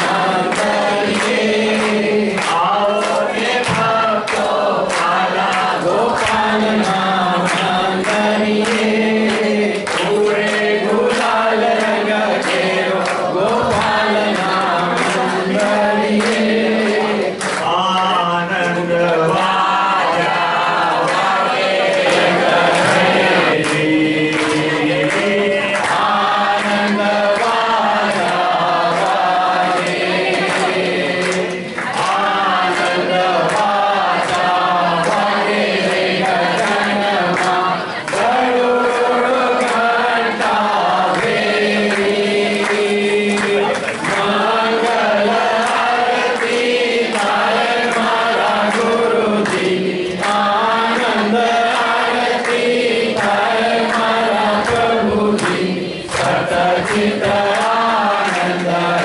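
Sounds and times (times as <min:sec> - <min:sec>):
group singing devotional song: 0:00.0 - 0:59.0
hand clapping: 0:00.0 - 0:59.0.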